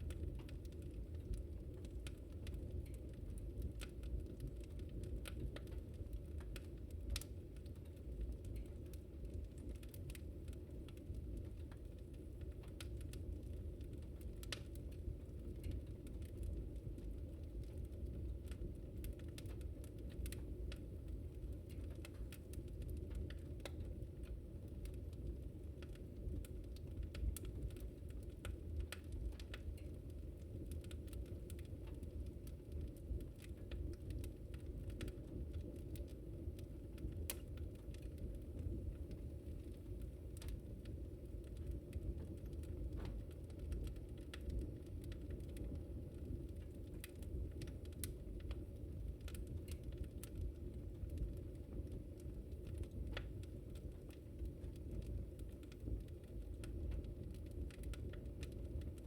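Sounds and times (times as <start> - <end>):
low rumble of burning fire: 0.0 - 59.0
wood fire pops and snaps: 0.0 - 59.0.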